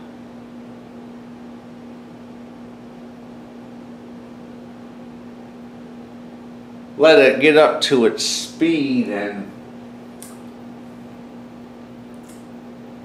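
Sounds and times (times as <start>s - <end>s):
ceiling fan air whoosh: 0.0s - 13.0s
fan motor low hum: 0.0s - 13.0s.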